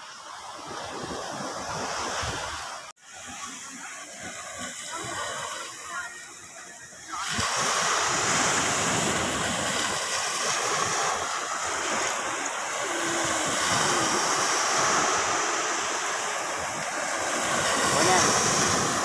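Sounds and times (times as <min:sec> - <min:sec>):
ocean surf on beach: 0:00.0 - 0:19.0.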